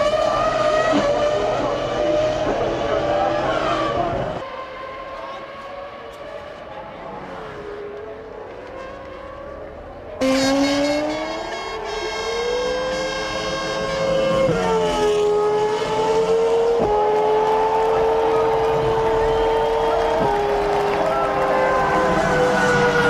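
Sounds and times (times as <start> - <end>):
racing car engine revving: 0.0 - 23.0.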